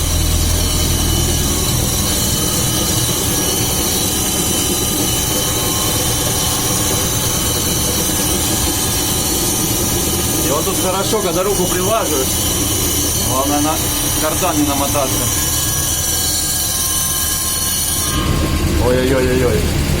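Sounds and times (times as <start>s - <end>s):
axle bearing hum and rumble: 0.0s - 20.0s.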